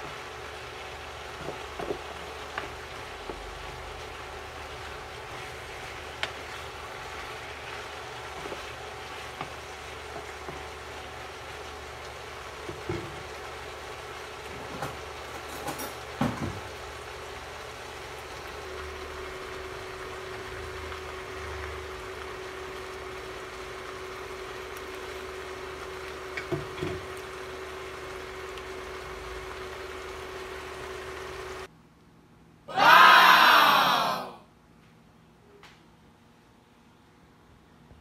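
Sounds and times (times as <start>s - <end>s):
vegetables sizzling in a pan: 0.0s - 31.7s.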